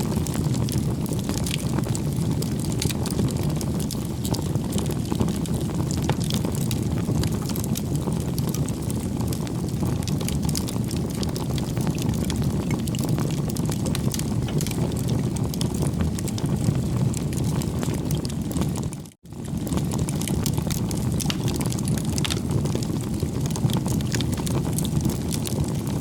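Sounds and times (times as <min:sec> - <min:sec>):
fire crackling and popping: 0:00.0 - 0:26.0
low rush of flame: 0:00.0 - 0:26.0.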